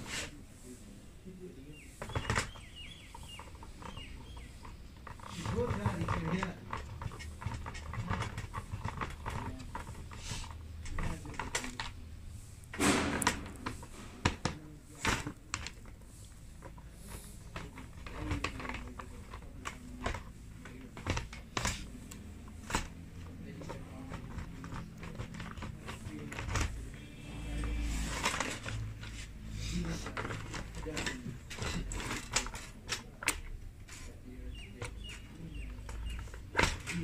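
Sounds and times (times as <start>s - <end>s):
parts clattering: 1.6s - 37.0s.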